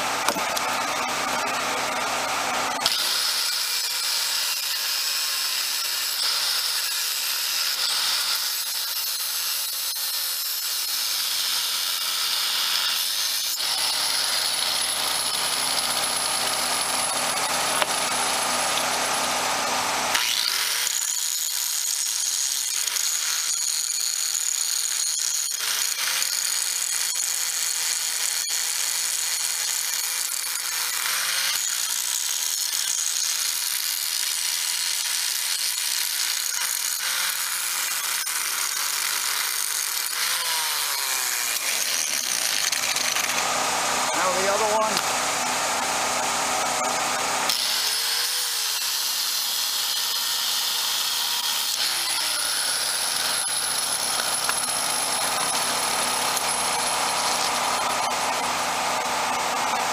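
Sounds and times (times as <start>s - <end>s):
angle grinder grinding metal: 0.0s - 59.9s.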